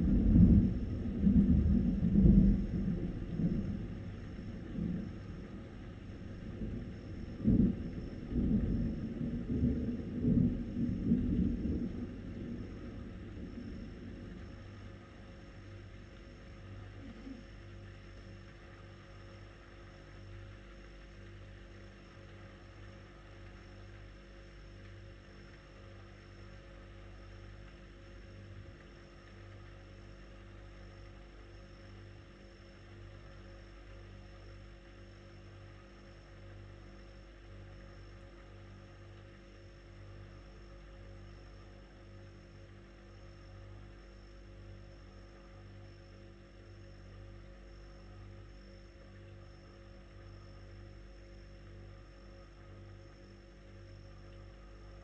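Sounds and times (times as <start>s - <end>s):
faint rumble: 0.0s - 55.0s
steady low hum: 0.0s - 55.0s.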